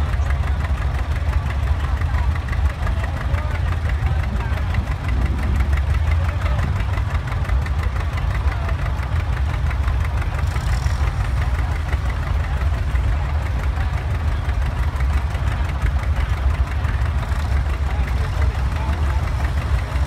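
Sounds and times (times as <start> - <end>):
tractor engine popping: 0.0 - 20.0.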